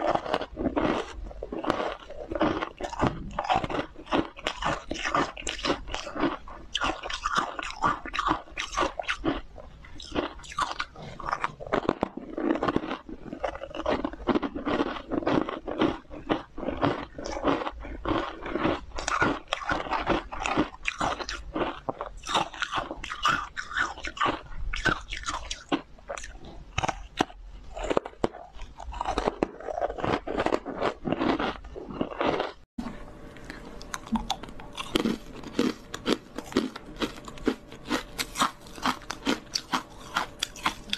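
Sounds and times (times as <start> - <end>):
crunching ice: 0.0 - 32.6, 33.4 - 40.9.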